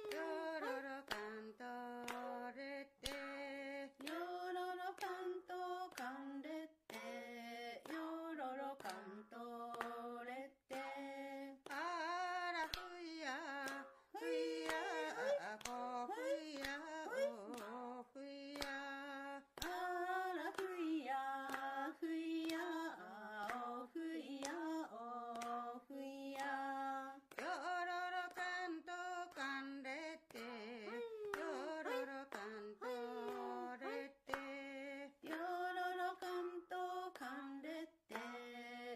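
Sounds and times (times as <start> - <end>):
women singing unaccompanied: 0.0 - 38.9.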